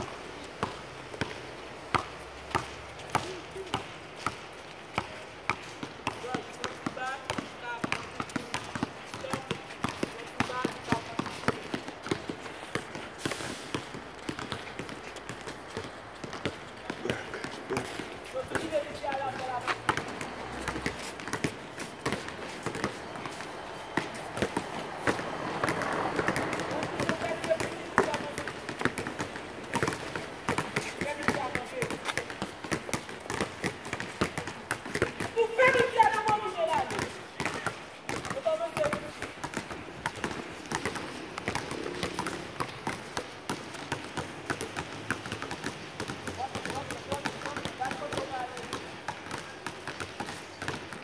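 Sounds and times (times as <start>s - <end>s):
basketballs bouncing on concrete: 0.0s - 51.0s
running footsteps on concrete: 0.4s - 51.0s.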